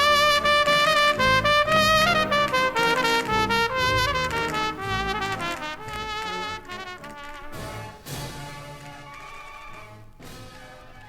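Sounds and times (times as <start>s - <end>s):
brass band music: 0.0s - 11.0s
trumpet playing lead line: 0.0s - 11.0s.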